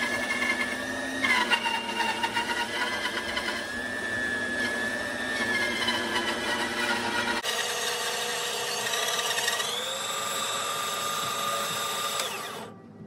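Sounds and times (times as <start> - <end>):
bandsaw cutting wood: 0.0 - 12.7.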